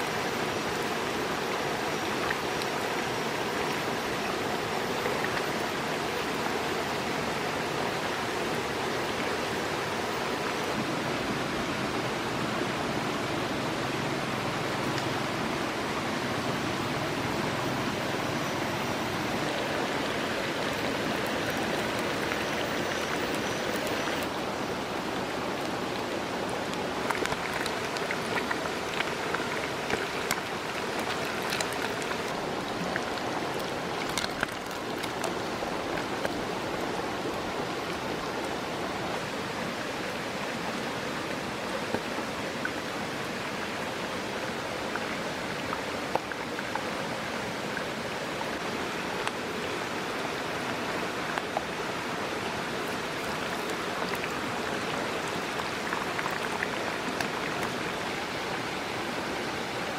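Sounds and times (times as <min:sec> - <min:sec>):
rocky stream rushing: 0:00.0 - 0:59.9.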